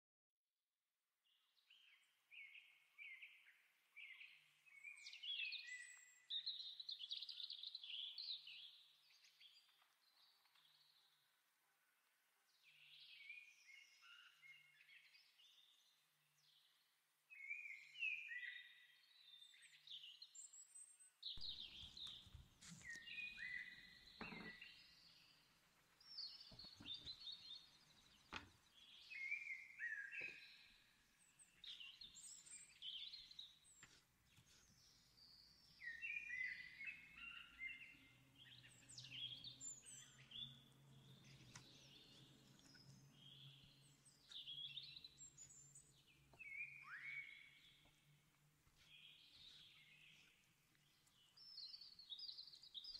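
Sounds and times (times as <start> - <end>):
small songbird chirping: 1.2 - 11.4, 12.5 - 52.9.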